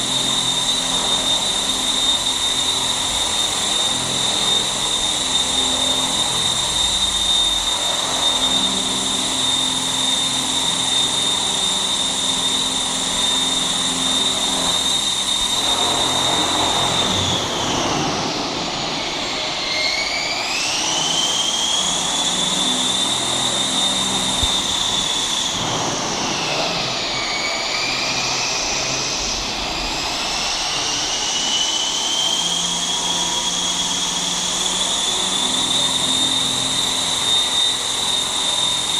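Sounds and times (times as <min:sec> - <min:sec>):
helicopter motor whine: 0:00.0 - 0:38.9.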